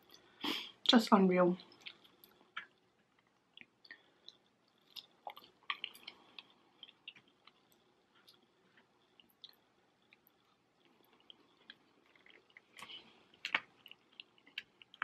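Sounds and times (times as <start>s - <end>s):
mouth chewing with wet clicks: 1.6s - 15.0s.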